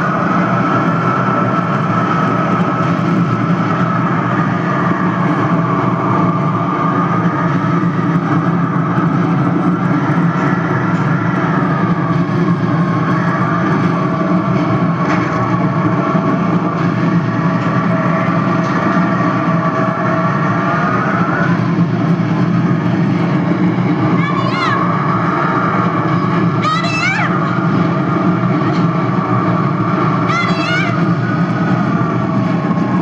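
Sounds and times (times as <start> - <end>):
howling wind: 0.0 - 33.0.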